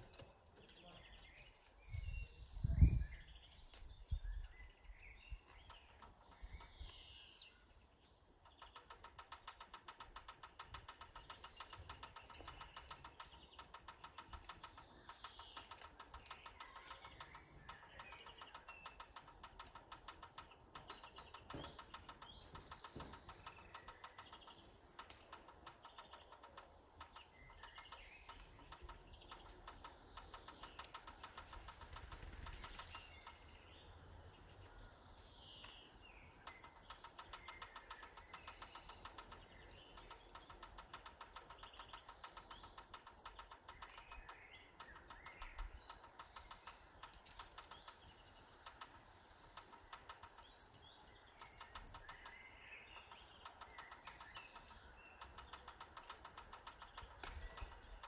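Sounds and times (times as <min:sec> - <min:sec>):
songbirds chirping: 0:00.0 - 0:58.0
fast even ticking: 0:08.5 - 0:33.5, 0:36.5 - 0:58.0.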